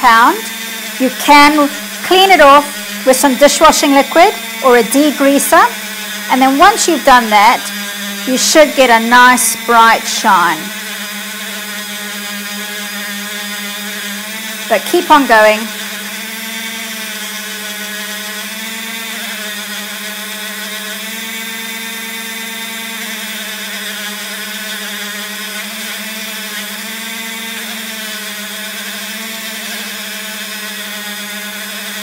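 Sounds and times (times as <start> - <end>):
rotary tool motor whine: 0.0 - 32.0.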